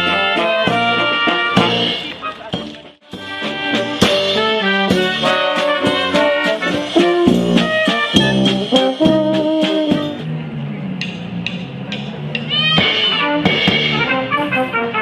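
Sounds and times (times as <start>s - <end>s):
brass band playing dance tune: 0.0s - 10.3s, 12.7s - 15.0s
steady drum beat: 0.0s - 10.3s, 11.0s - 14.3s.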